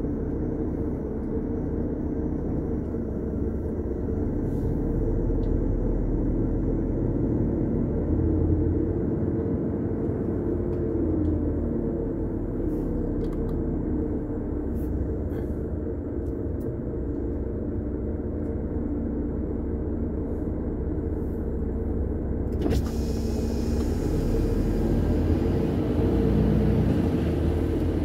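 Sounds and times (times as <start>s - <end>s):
truck diesel engine rumbling: 0.0s - 28.0s.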